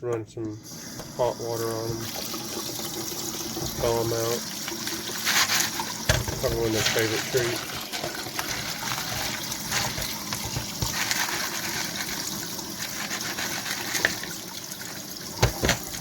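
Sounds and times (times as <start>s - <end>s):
tap water running: 0.4s - 16.0s.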